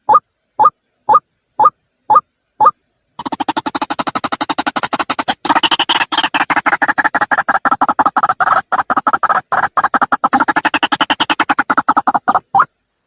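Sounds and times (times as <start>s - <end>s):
waterhen calling: 0.0s - 12.7s.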